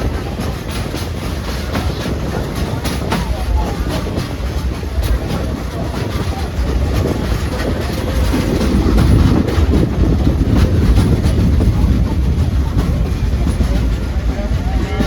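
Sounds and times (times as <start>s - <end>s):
train car rumbling: 0.0s - 15.0s
wheels clacking over rail joints: 0.0s - 15.0s.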